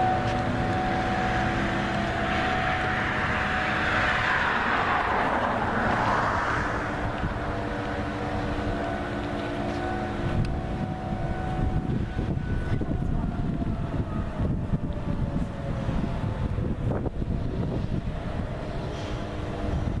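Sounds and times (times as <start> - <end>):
vehicle passing by: 0.0 - 20.0.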